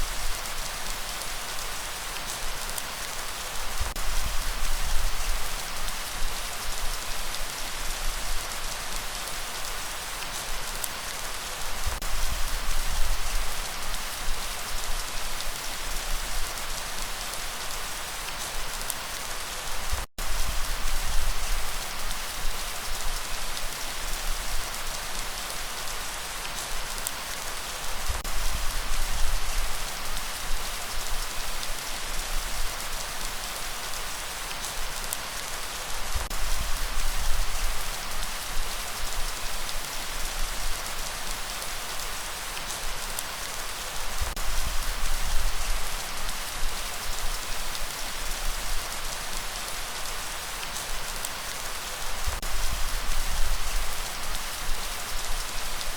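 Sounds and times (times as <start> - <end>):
rain pattering on surfaces: 0.0 - 55.9.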